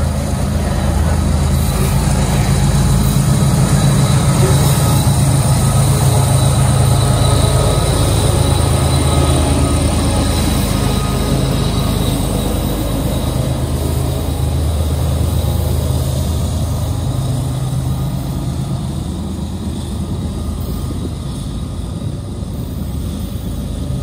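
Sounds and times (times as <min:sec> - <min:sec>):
locomotive engine droning: 0:00.0 - 0:24.0.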